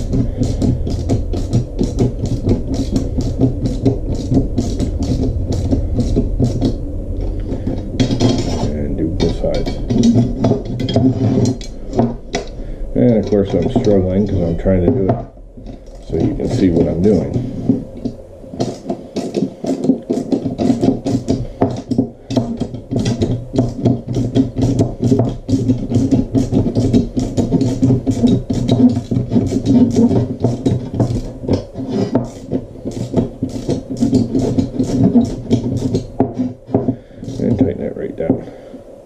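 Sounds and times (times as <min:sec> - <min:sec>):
rough grinding drone: 0:00.0 - 0:38.8.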